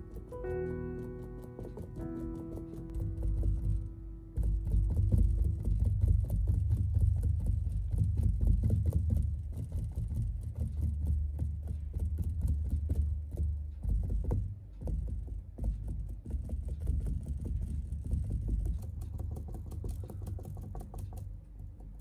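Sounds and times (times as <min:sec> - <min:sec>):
dull low thumps: 0:00.0 - 0:20.1.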